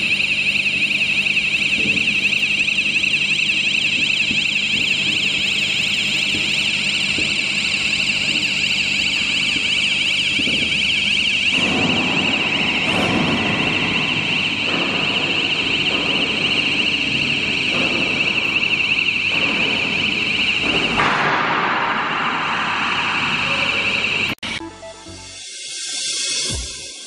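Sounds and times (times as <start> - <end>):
warbling high-pitched alarm: 0.0 - 27.0.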